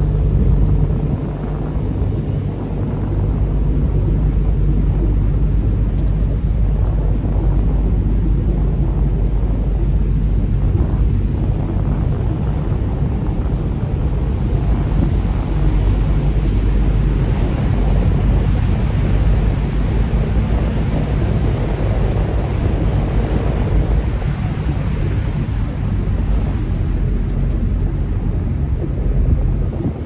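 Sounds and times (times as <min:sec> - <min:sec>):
boat engine humming: 0:00.0 - 0:30.0
water rushing along hull: 0:00.0 - 0:30.0
wind buffeting microphone: 0:00.0 - 0:30.0.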